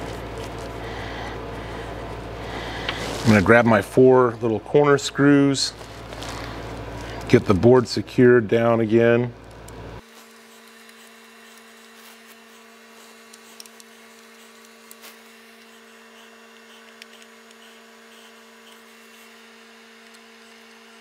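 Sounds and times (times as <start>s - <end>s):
low two-tone hum: 0.0s - 21.0s.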